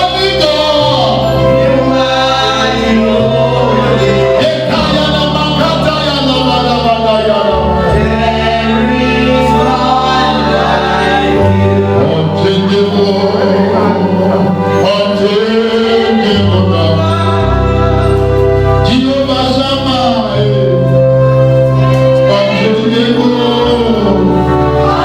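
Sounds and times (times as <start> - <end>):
gospel choir singing: 0.0 - 25.0
sustained bass notes: 0.0 - 25.0.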